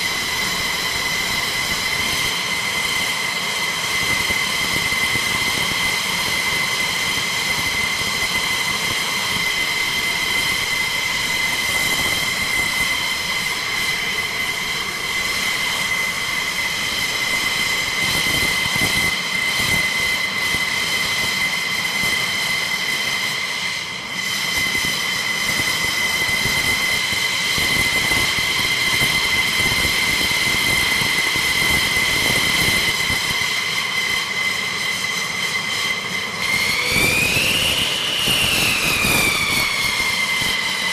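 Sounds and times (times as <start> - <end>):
jet engine rushing noise: 0.0 - 40.9
jet engine whine: 0.0 - 40.9.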